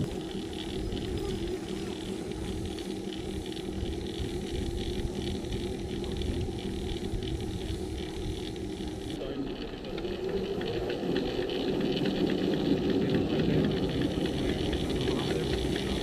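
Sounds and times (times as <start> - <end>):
bike whirring on trainer: 0.0 - 16.0
constant low hum: 0.0 - 16.0.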